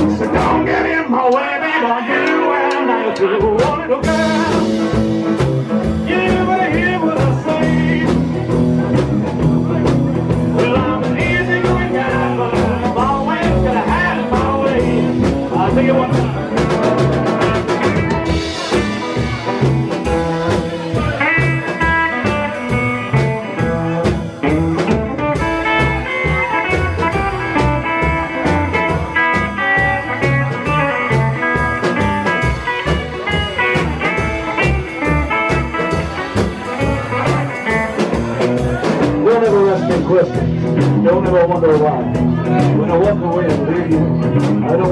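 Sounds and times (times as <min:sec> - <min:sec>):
steady drum beat: 0:00.0 - 0:01.4, 0:02.2 - 0:44.9
rhythm guitar: 0:00.0 - 0:44.9
electric guitar lead lines: 0:02.0 - 0:44.9.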